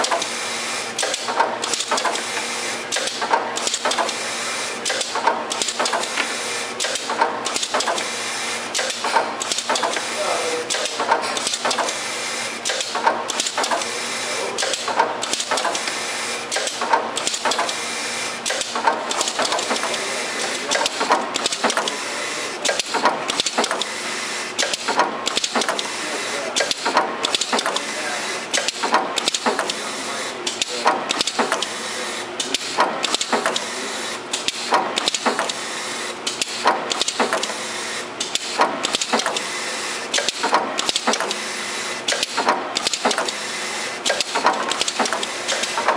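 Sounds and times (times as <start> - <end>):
machine mechanical clatter: 0.0 - 45.9.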